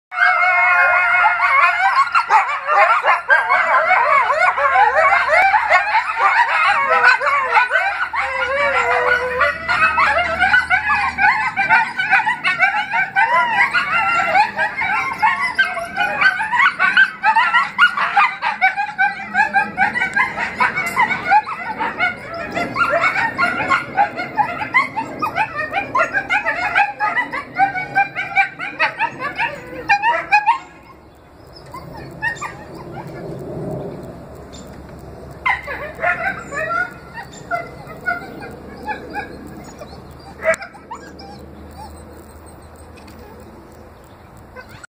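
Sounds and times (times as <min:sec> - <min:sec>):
coyotes howling and yipping: 0:00.1 - 0:44.9.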